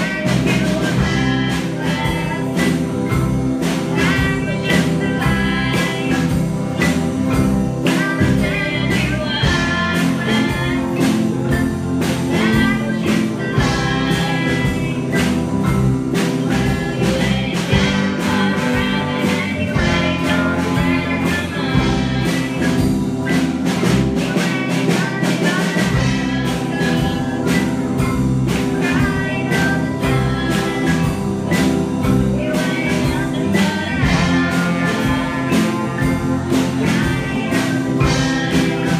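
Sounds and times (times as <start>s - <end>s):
electric guitar: 0.0s - 38.9s
keyboard: 0.0s - 38.9s
singers singing: 0.0s - 38.9s.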